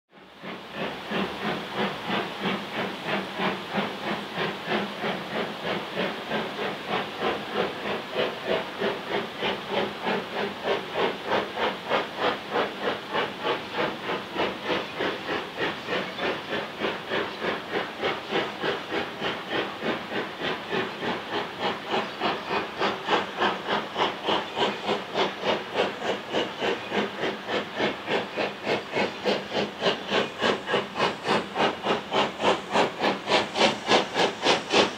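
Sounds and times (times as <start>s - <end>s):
steam locomotive chuffing: 0.1s - 34.9s.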